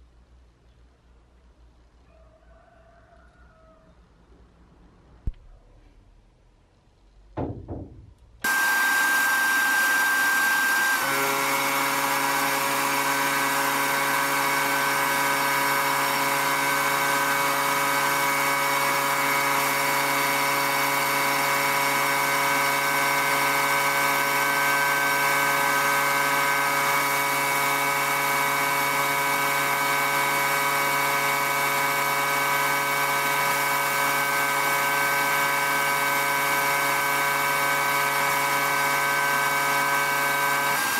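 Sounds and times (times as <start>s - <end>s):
motor humming: 7.4s - 40.9s.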